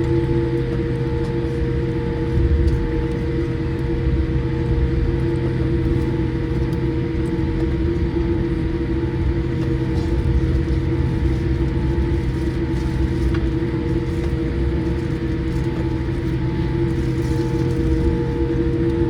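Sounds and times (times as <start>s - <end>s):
aircraft cabin rumble: 0.0s - 19.0s
steady hum tones: 0.0s - 19.0s.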